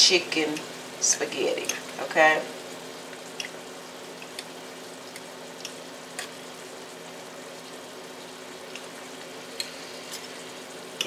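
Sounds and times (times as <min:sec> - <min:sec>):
vegetables sizzling in skillet: 0:00.0 - 0:11.0.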